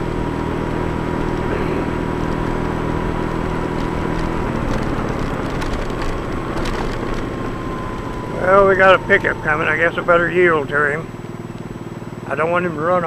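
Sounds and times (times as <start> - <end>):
crackling rattling ride noise: 0.0 - 13.0
scooter motor: 0.0 - 13.0.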